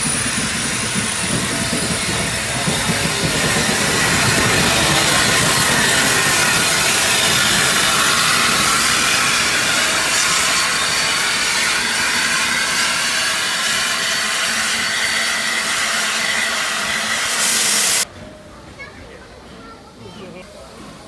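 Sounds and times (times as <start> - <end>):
steam locomotive venting steam: 0.0 - 18.1.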